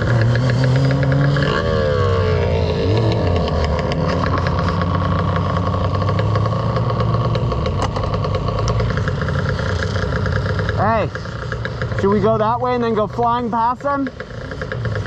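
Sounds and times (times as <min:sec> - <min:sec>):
dirt bike engine idling: 0:00.0 - 0:15.0.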